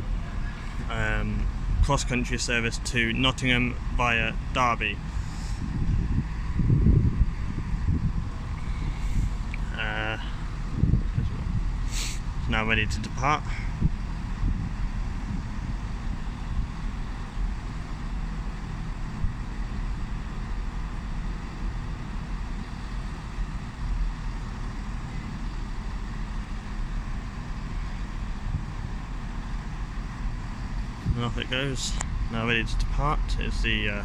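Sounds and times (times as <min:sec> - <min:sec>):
train diesel engines idling: 0:00.0 - 0:34.0.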